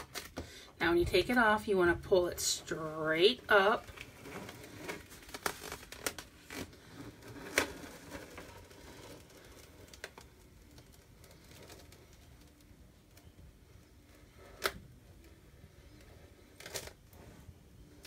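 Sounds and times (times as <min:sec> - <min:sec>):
plastic film peeling and crackling: 0:00.0 - 0:00.4, 0:03.2 - 0:18.0.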